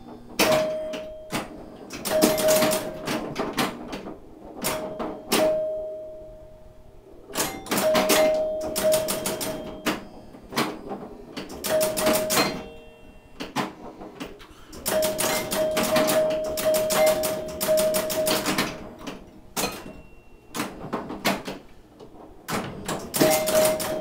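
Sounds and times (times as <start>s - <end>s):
pinball machine mechanical clicks: 0.0s - 6.3s, 7.3s - 24.0s.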